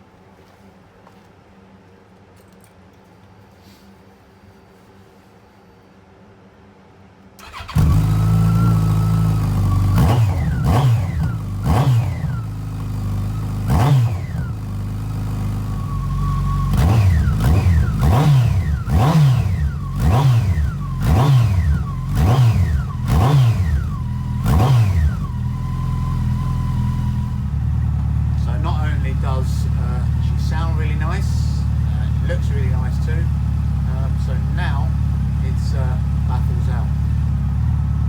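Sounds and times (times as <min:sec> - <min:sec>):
engine revving in throttle blips: 0:07.4 - 0:38.0
motorcycle engine idling: 0:07.4 - 0:38.0.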